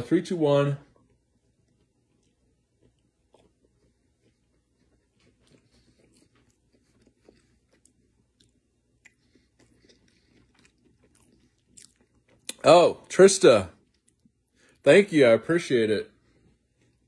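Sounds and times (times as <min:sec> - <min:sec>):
chewing food: 0:00.8 - 0:14.9, 0:16.2 - 0:17.0.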